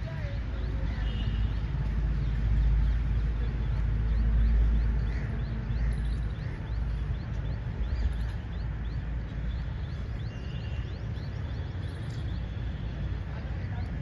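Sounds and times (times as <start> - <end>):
steady low rumble: 0.0 - 12.8
bird chirping: 0.0 - 13.0.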